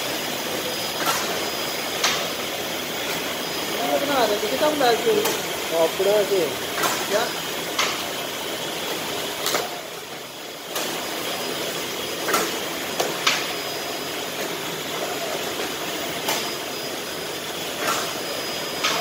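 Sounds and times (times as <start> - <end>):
conveyor machinery running: 0.0 - 19.0.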